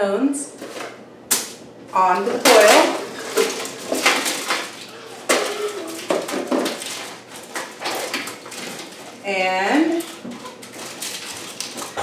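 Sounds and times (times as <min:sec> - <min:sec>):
pine cones clattering on metal: 0:02.0 - 0:12.0
foil crinkling: 0:02.1 - 0:12.0.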